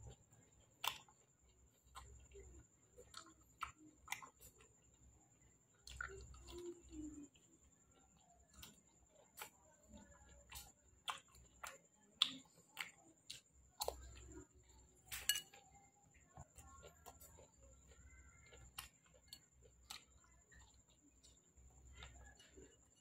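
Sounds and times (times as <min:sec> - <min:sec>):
lip smacks and mouth clicks eating: 0:00.0 - 0:05.1, 0:05.8 - 0:23.0.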